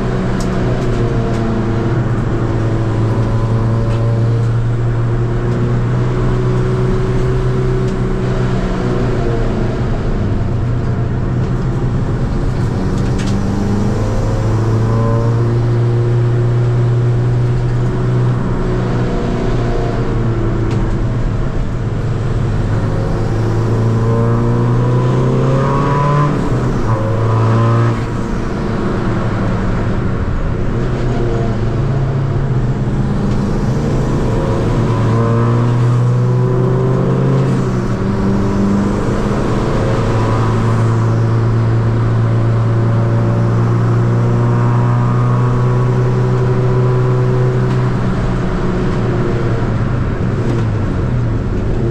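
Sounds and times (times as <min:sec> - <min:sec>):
diesel engine accelerating hard: 0:00.0 - 0:51.9.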